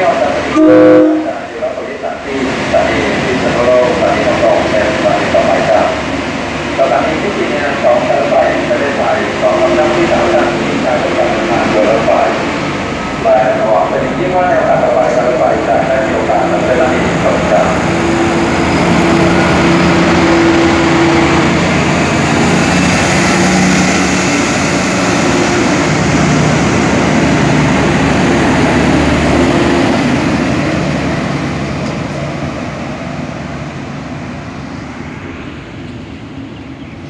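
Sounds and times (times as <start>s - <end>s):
diesel train engine hum: 0.0s - 37.0s
train wheel and rail noise: 0.0s - 37.0s.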